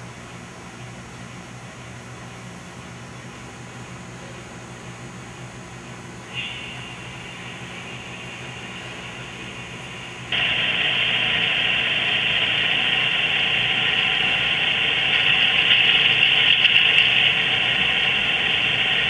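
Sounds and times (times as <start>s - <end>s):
tinny model locomotive engine sound: 0.0s - 19.0s.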